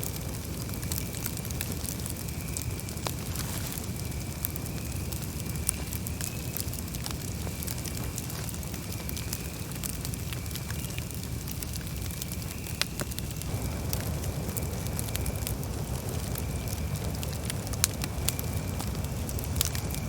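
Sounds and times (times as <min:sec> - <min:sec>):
campfire wood crackling: 0:00.0 - 0:20.0
fire popping: 0:00.0 - 0:20.0
low fire rumble: 0:00.0 - 0:20.0.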